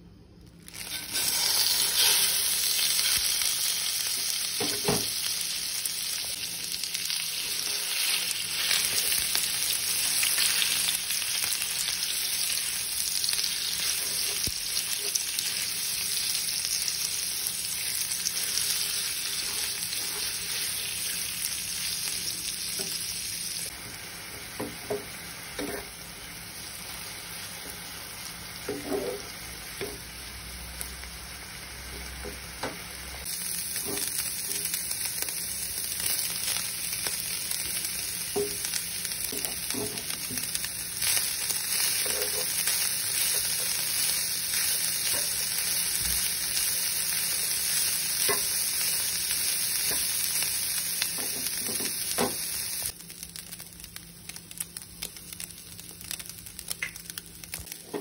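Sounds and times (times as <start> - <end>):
food sizzling in oil: 0.5 - 58.0.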